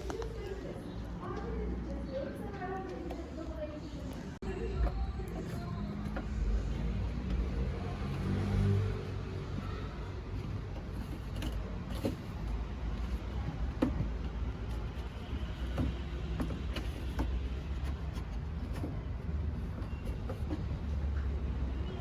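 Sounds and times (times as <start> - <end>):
faint clicks and knocks: 0.0 - 22.0
road traffic rumble: 0.0 - 22.0.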